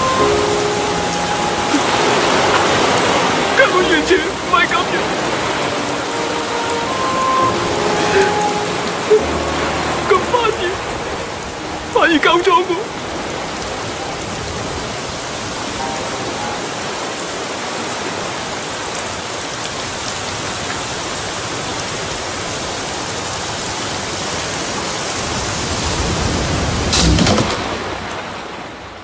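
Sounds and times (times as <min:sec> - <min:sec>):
waves breaking on beach: 0:00.0 - 0:29.0.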